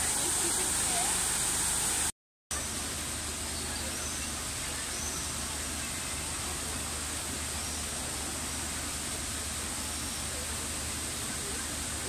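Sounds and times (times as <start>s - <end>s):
fountain water rushing: 0.0s - 12.0s.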